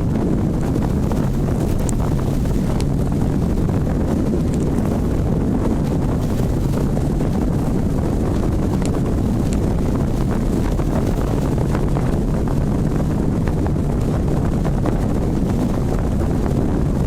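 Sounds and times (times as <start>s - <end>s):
boat engine rumble: 0.0s - 17.0s
wind buffeting microphone: 0.0s - 17.0s.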